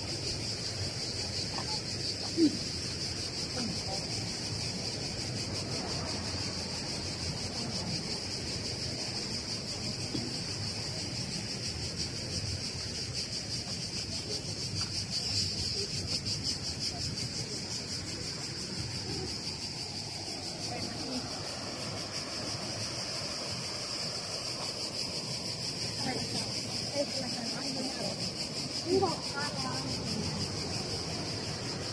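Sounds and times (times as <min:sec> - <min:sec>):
cicadas droning: 0:00.0 - 0:31.9.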